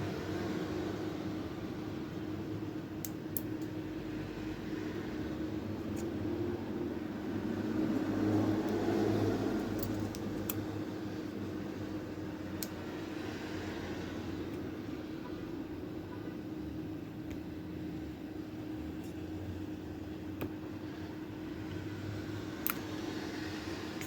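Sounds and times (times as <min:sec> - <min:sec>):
low hum of fan: 0:00.0 - 0:24.0.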